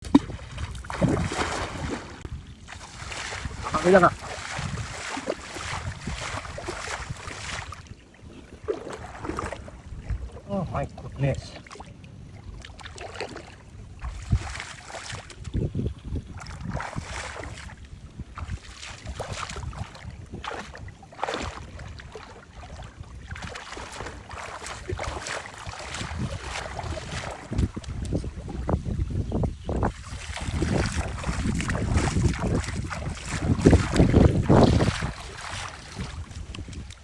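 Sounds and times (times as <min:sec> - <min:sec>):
wind buffeting microphone: 0:00.0 - 0:11.6, 0:13.6 - 0:37.0
water sloshing and splashing: 0:00.0 - 0:37.0.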